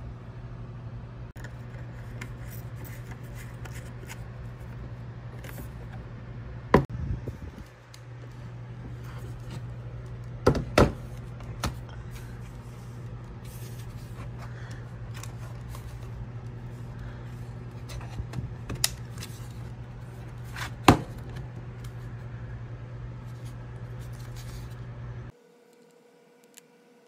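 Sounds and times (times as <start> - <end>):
steady low hum: 0.0 - 25.4.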